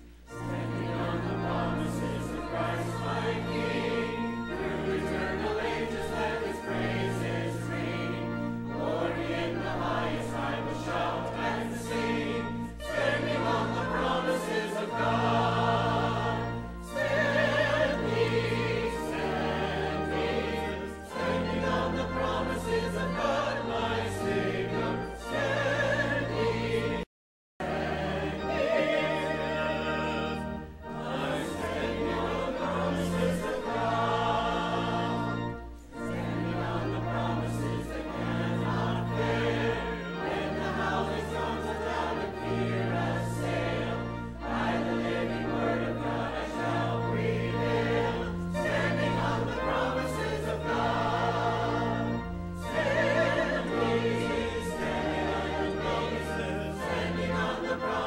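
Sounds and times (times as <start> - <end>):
low organ notes: 0.0 - 27.0, 27.6 - 58.0
choir singing a hymn: 0.0 - 58.0.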